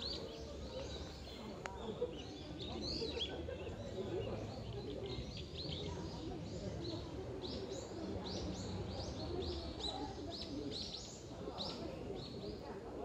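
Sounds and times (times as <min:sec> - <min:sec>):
songbird chirping: 0:00.0 - 0:12.8.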